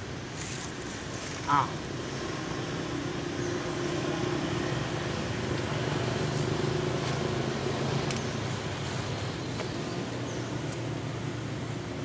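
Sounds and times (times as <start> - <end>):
outdoor background noise: 0.0 - 12.0
low motor hum: 0.1 - 12.0.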